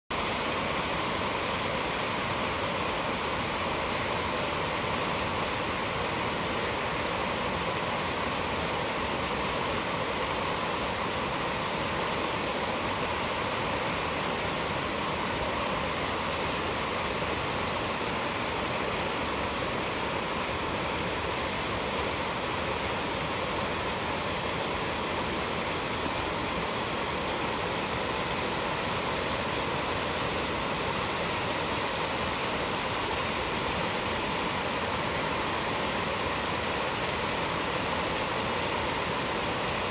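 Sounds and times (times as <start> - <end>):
creek rushing over boulders: 0.1 - 39.9.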